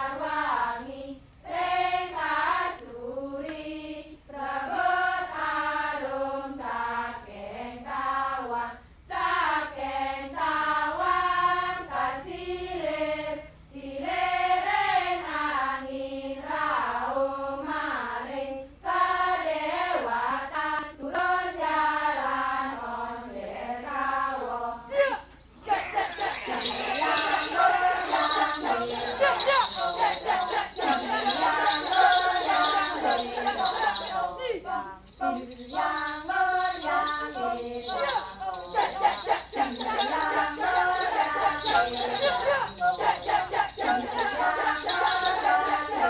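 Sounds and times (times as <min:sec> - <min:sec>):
women chanting in unison: 0:00.0 - 0:24.9, 0:25.6 - 0:46.0.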